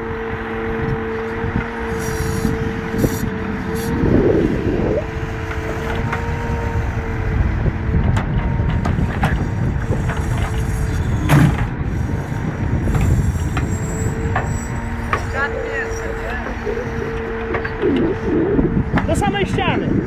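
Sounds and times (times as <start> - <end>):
diesel engine running under load: 0.0 - 20.0
steady high hydraulic whine: 0.0 - 20.0.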